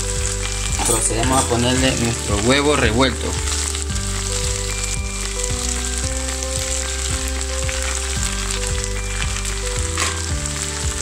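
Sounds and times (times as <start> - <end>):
background music: 0.0 - 11.0
oil sizzling in frying pan: 0.0 - 11.0.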